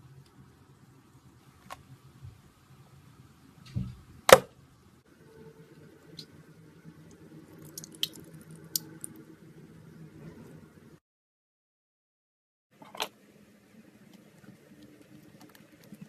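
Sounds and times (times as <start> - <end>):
faint steady hum: 0.0 - 11.0, 12.8 - 16.0.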